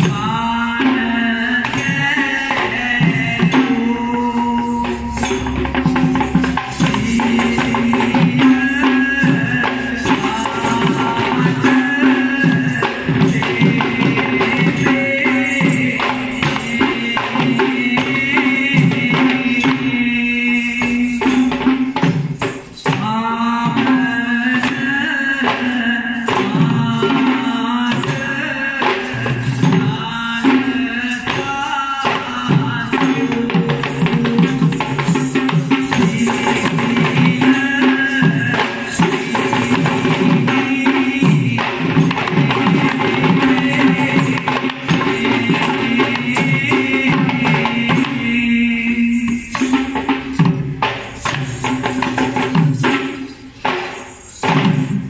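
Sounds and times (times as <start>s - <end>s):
drums playing fast rhythms: 0.0s - 55.0s
jingling bells: 0.0s - 55.0s.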